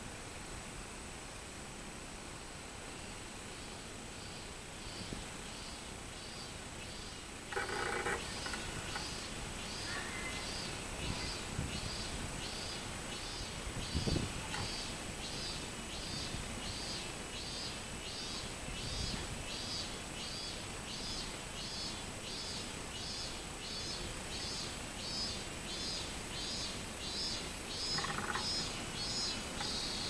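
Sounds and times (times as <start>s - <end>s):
cicada singing: 3.0s - 30.0s.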